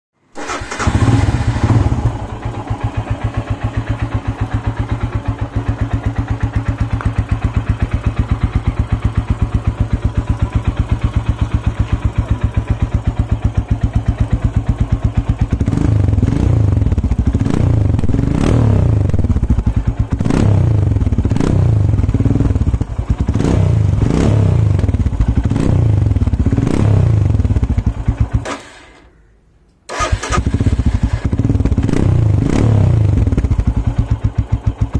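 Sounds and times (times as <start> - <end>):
motorcycle engine idling: 0.4 - 28.4, 29.9 - 34.9
motorcycle engine revving: 0.4 - 28.8, 29.9 - 34.9.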